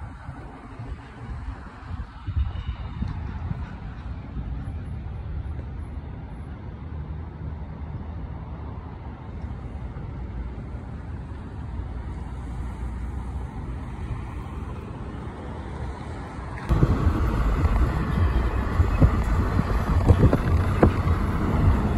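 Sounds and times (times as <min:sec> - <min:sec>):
road traffic rumble: 0:00.0 - 0:21.9.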